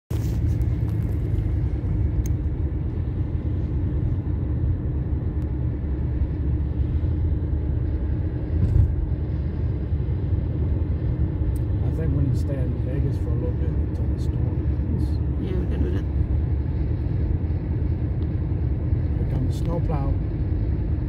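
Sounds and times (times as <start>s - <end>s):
car engine and road noise: 0.1s - 21.0s
faint steady hum: 0.2s - 21.0s.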